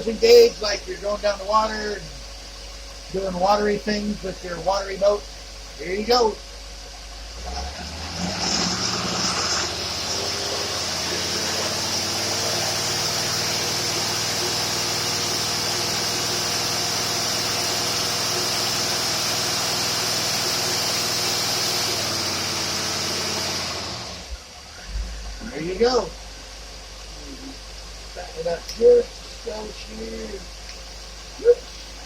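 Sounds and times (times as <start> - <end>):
marine engine running under load: 0.0 - 29.0
steady high whine: 0.0 - 32.0.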